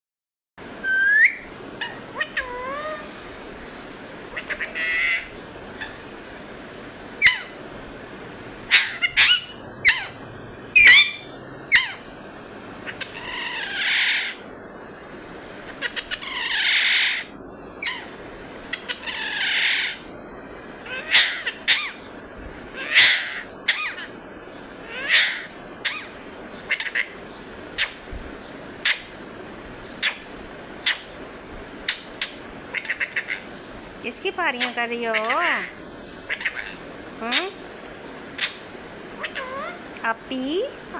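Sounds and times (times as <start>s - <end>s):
parrot squawking: 0.8s - 6.4s, 7.1s - 7.7s, 8.6s - 12.1s, 12.8s - 14.5s, 15.6s - 20.1s, 20.8s - 24.2s, 24.8s - 28.1s, 28.8s - 29.2s, 29.8s - 31.2s, 31.8s - 40.8s.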